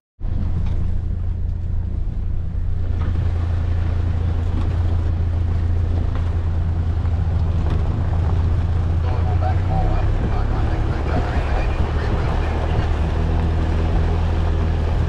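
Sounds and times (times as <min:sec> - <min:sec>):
vehicle engine droning: 0:00.2 - 0:15.0
wind noise: 0:00.2 - 0:15.0.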